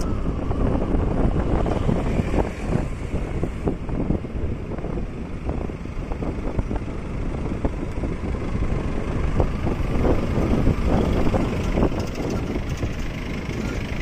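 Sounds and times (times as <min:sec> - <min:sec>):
motorcycle engine: 0:00.0 - 0:14.0
road noise: 0:00.0 - 0:14.0
wind buffeting microphone: 0:00.0 - 0:14.0.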